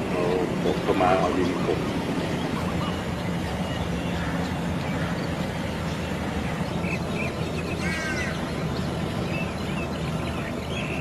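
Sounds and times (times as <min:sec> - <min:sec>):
birds calling: 0:00.0 - 0:11.0
low engine-like hum: 0:00.0 - 0:11.0.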